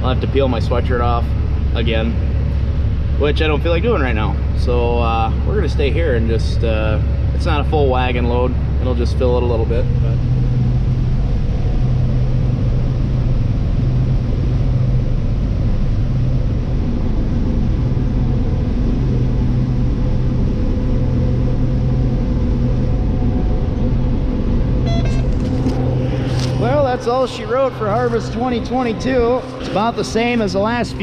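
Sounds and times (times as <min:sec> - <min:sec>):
tractor diesel engine humming: 0:00.0 - 0:31.0.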